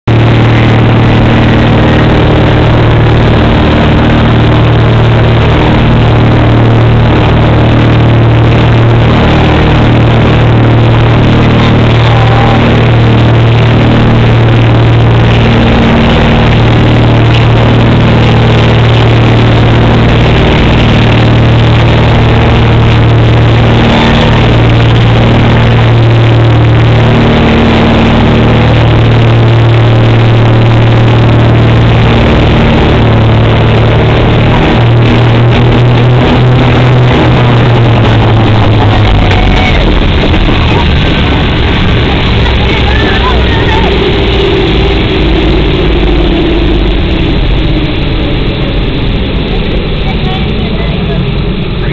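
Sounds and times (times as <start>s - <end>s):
low rumble: 0.0s - 51.9s
propeller plane engines: 0.0s - 51.9s.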